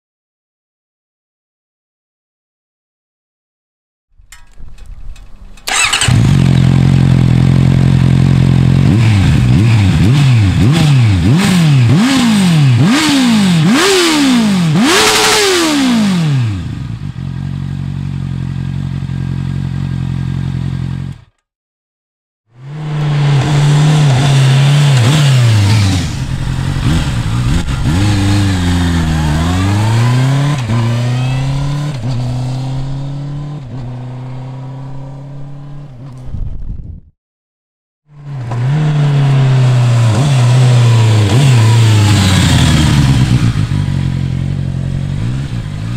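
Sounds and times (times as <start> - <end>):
motorcycle engine idling and revving: 4.3 - 21.5, 22.5 - 36.8, 38.1 - 45.9.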